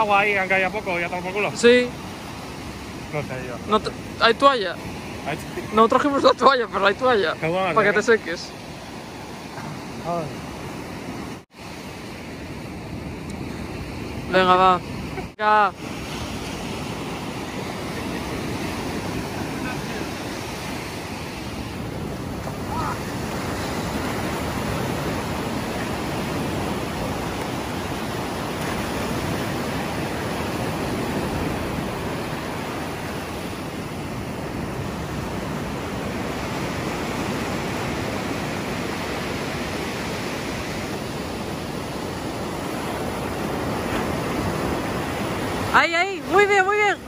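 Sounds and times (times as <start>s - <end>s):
sea surf breaking on beach: 0.0s - 47.0s.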